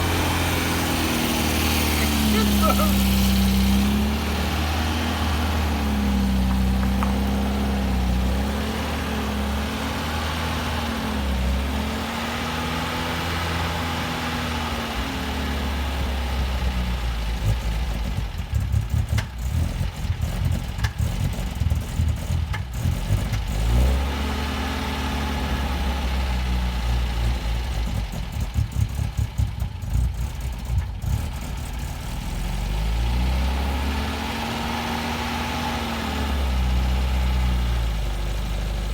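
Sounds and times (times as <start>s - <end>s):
car engine running unevenly: 0.0s - 33.2s, 33.8s - 38.9s.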